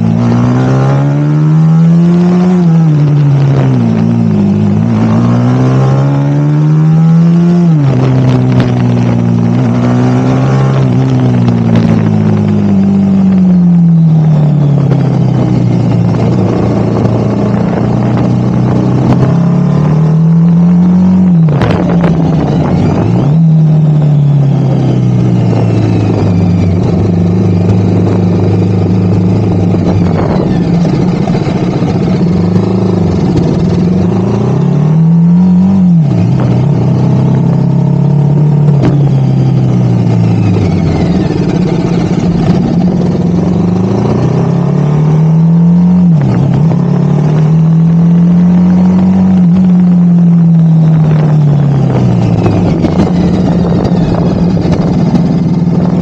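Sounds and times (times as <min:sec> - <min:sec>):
motorcycle engine revving: 0:00.0 - 0:56.0
road and wind noise: 0:00.0 - 0:56.0.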